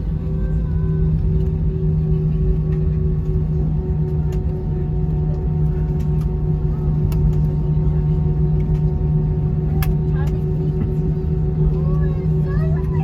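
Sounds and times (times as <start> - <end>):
airplane cabin hum and rumble: 0.0 - 13.0.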